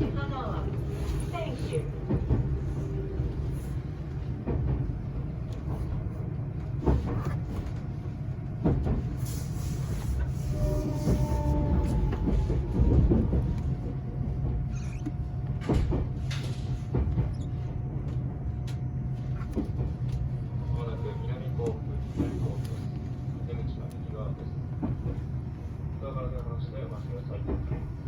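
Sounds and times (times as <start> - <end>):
train cabin rumble: 0.0 - 28.0.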